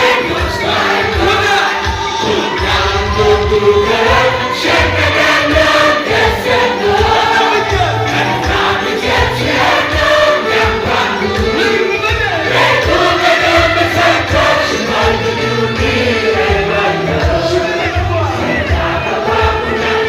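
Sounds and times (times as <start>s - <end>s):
band playing: 0.0s - 20.0s
choir singing gospel: 0.0s - 20.0s
steady drum beat: 0.0s - 20.0s.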